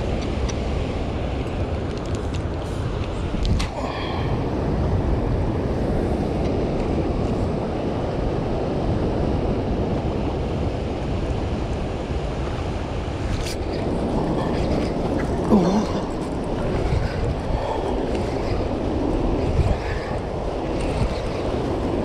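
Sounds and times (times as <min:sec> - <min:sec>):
wind on microphone: 0:00.0 - 0:22.0
turbulent water rushing: 0:03.2 - 0:22.0.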